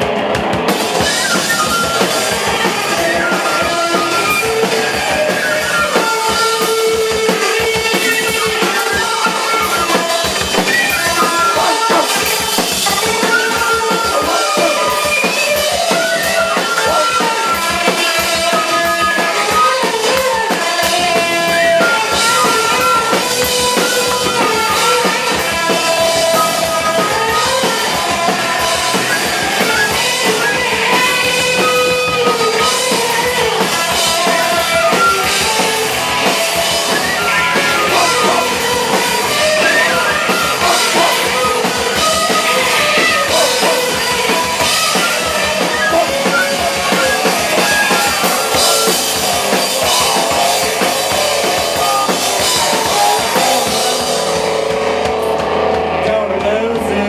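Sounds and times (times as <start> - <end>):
drum kit beat: 0.0 - 57.0
electric guitar: 0.0 - 57.0.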